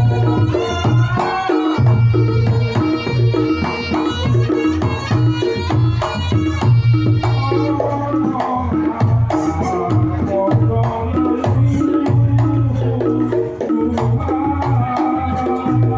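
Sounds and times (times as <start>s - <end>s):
pounding drums: 0.0s - 15.9s
shawm melody: 0.0s - 15.9s.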